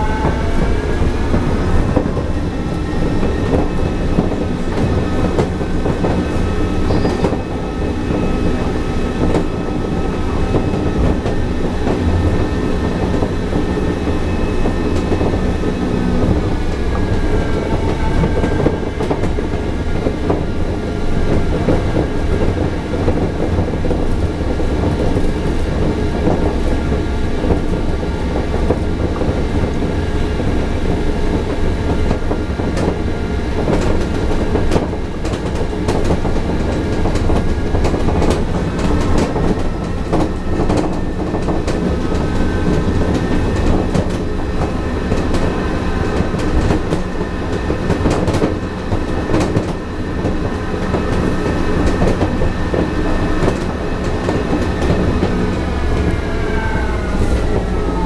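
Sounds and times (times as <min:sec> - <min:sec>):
train tyres rumbling: 0:00.0 - 0:58.0.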